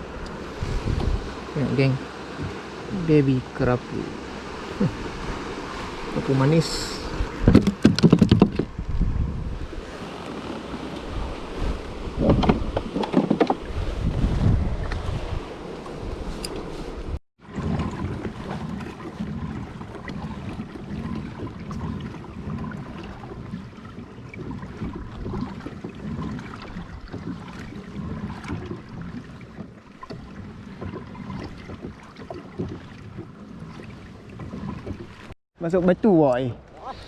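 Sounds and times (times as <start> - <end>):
wind on microphone: 0.0 - 35.3
water sloshing against hull: 0.0 - 37.0.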